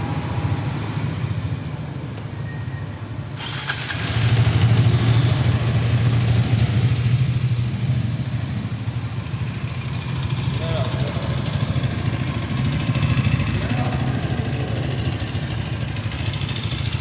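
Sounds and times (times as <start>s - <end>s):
motorcycle engine idling: 1.7s - 17.0s.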